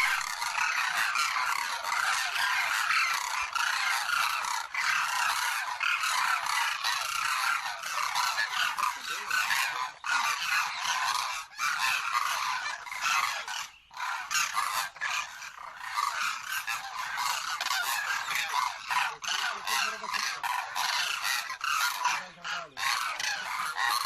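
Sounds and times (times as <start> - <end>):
cranes honking: 0.0 - 15.0, 16.0 - 24.0.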